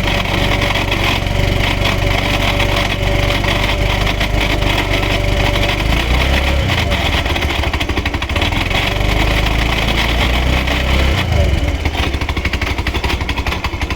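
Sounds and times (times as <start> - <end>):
scooter engine rattling: 0.0 - 13.9.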